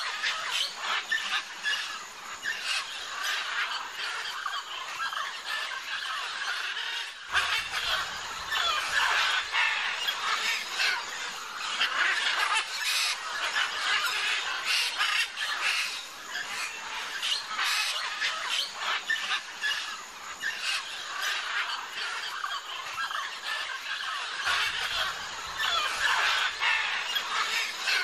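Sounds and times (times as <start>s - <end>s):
macaws squawking: 2.5s - 28.0s.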